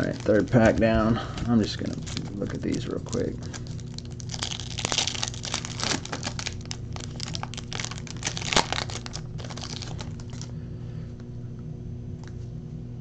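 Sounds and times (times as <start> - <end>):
foil wrapper crinkling: 0.0 - 10.5.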